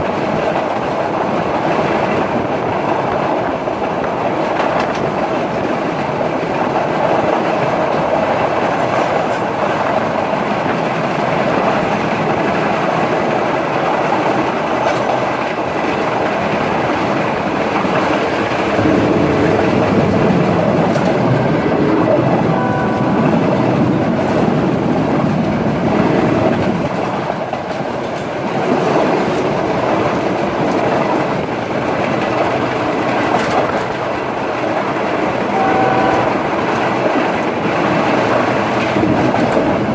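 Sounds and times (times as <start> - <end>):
train rumbling along tracks: 0.0 - 39.9
wheels clacking on rail joints: 0.0 - 39.9.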